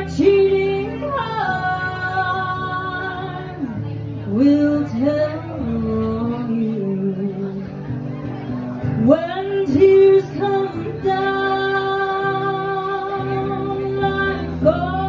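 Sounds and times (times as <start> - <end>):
woman singing: 0.0 - 7.7, 8.9 - 15.0
acoustic guitar strumming: 0.0 - 15.0.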